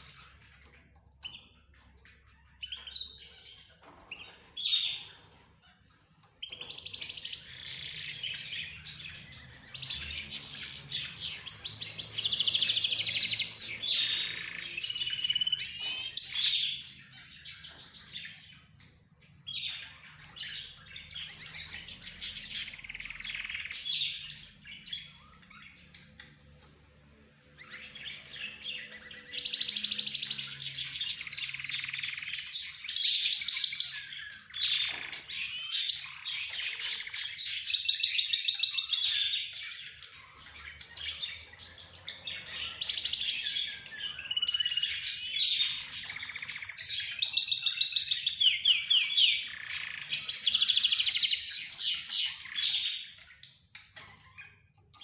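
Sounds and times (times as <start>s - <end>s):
cage birds chirping and trilling: 0.0s - 55.0s.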